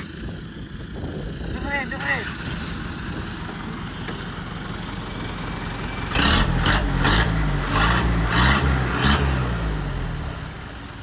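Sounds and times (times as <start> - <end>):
truck engine idling and revving: 0.0 - 11.0.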